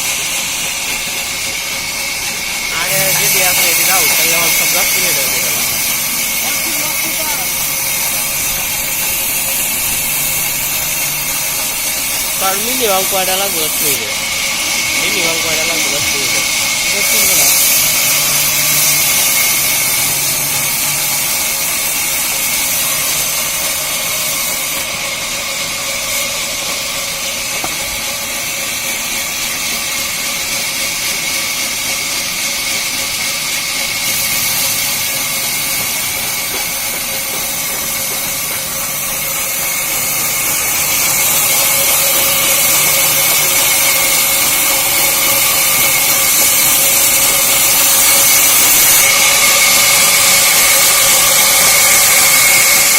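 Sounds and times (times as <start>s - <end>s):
sawmill saw hissing and whining: 0.0s - 52.9s.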